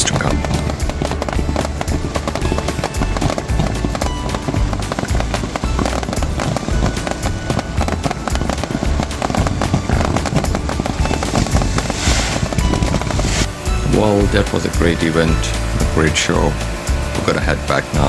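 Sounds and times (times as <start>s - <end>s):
fireworks booming and crackling: 0.0s - 18.0s
music playing: 0.0s - 18.0s.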